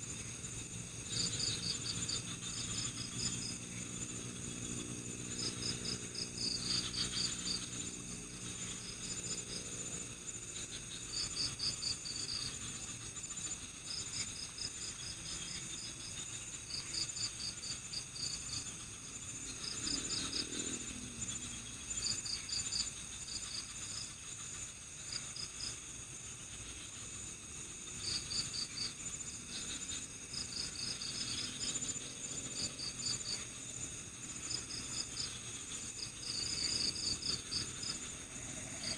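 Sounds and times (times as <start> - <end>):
crickets chirping: 0.0 - 38.9
high insect drone: 0.0 - 38.9.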